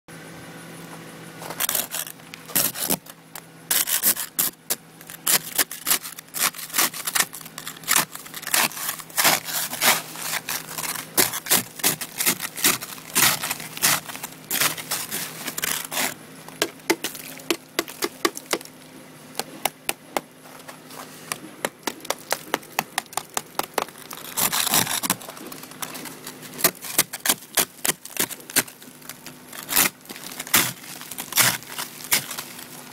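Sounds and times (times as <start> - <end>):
ice scraper scraping windshield: 1.4 - 18.7, 19.4 - 32.9.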